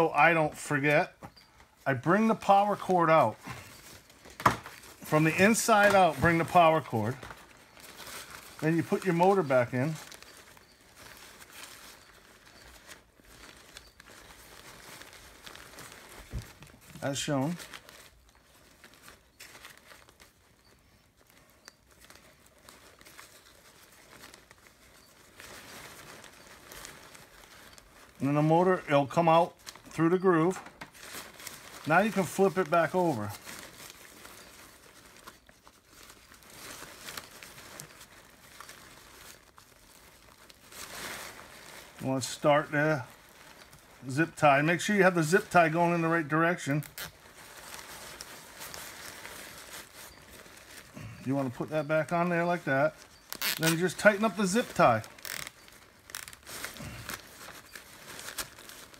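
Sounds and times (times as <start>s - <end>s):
thin fabric rustling and crinkling: 0.0s - 58.9s.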